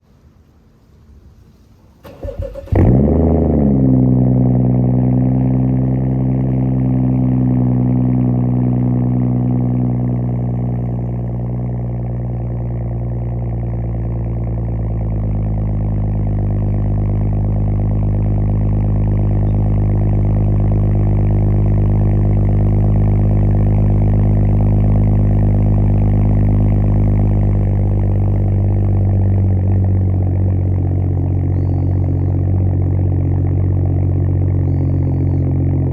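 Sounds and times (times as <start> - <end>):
car engine idling: 2.0 - 35.9.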